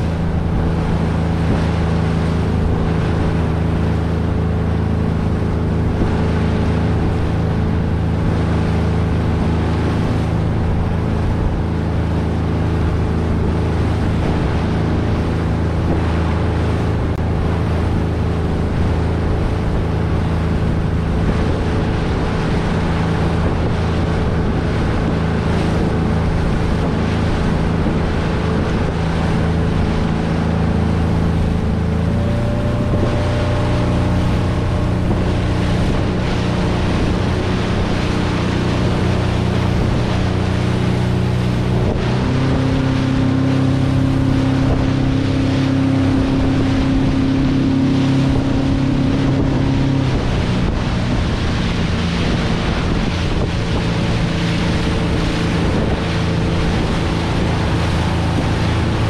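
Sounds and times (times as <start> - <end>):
motorboat engine running: 0.0 - 59.0
wake splashing: 0.0 - 59.0
wind buffeting microphone: 0.0 - 59.0.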